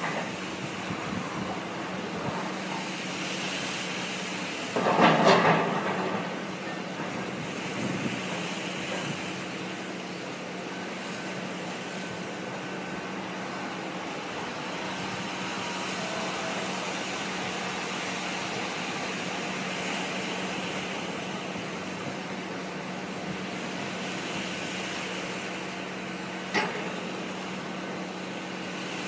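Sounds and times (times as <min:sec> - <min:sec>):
heavy construction machinery drone: 0:00.0 - 0:29.0
wind: 0:00.0 - 0:29.0.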